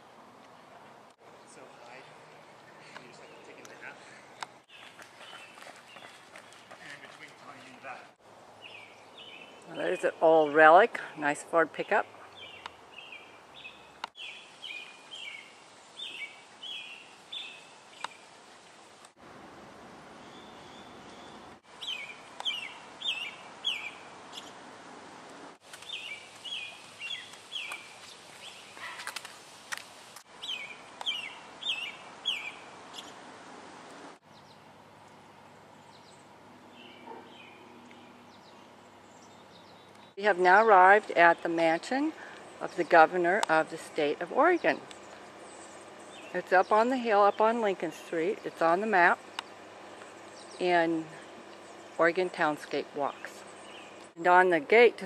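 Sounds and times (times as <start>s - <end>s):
songbird singing: 0.0s - 18.6s, 20.1s - 24.6s, 25.6s - 29.2s, 30.2s - 33.2s, 34.2s - 55.0s
steady outdoor hiss: 0.0s - 55.0s.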